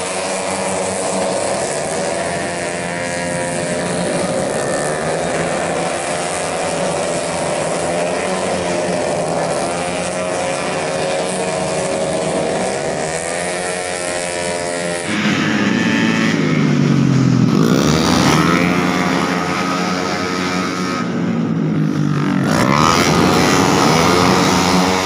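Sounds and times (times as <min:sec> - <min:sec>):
scooter engines revving high: 0:00.0 - 0:25.0.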